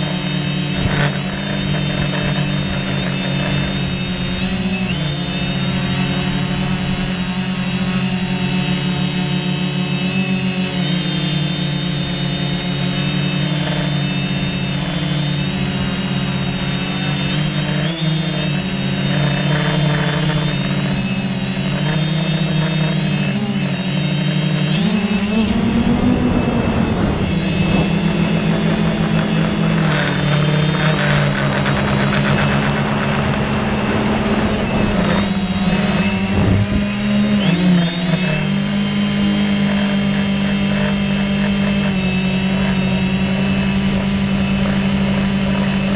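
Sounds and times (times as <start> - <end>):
drone propellers buzzing whine: 0.0 - 45.9.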